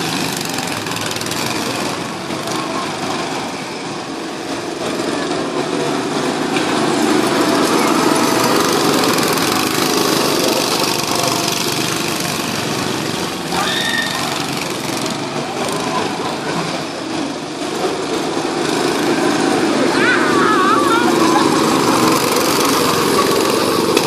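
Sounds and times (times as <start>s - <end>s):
go-kart engines passing: 0.0s - 24.0s.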